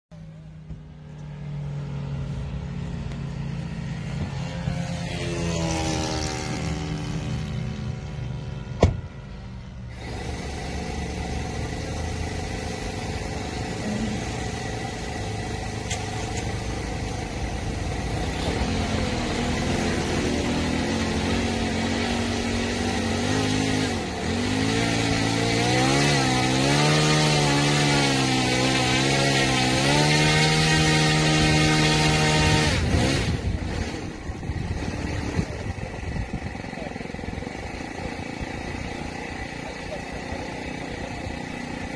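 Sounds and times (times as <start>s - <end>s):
model aircraft engine running: 0.2s - 41.9s.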